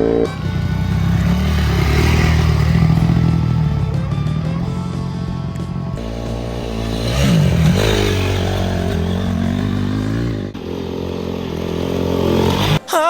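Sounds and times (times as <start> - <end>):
dirt bike engine revving: 0.0 - 12.9
background music: 0.0 - 13.0.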